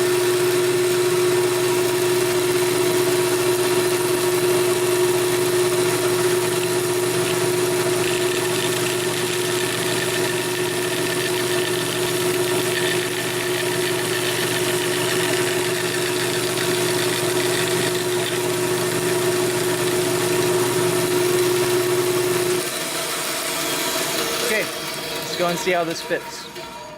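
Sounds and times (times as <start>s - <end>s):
bandsaw cutting wood: 0.0s - 26.9s.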